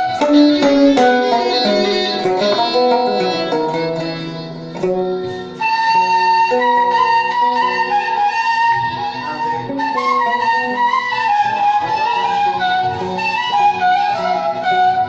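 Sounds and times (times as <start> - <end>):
held wind or bowed melody: 0.0 - 15.0
plucked string instrument: 0.0 - 15.0.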